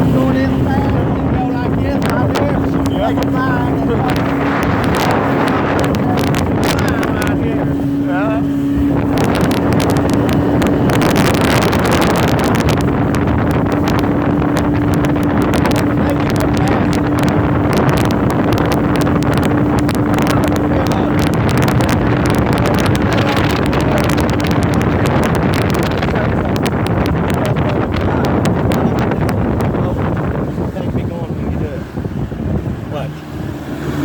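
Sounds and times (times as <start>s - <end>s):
motorboat engine running: 0.0s - 34.0s
wind buffeting microphone: 0.0s - 34.0s.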